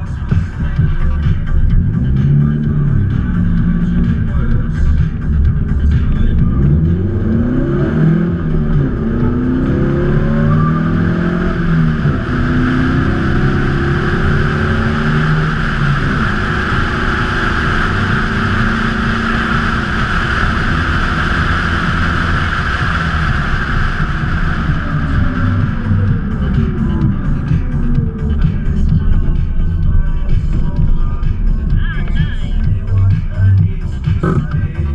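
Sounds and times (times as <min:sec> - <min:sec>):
car engine accelerating: 0:00.0 - 0:34.9
wind and road noise: 0:00.0 - 0:34.9.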